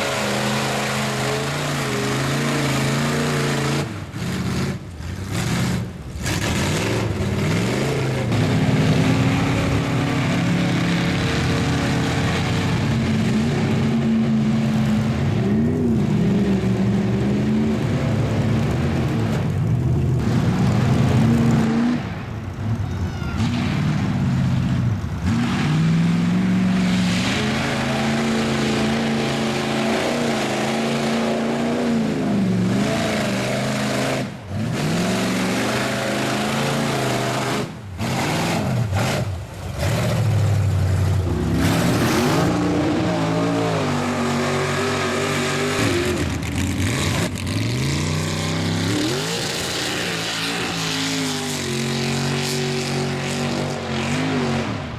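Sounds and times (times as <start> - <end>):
truck engine revving hard: 0.0 - 22.8, 23.4 - 54.9.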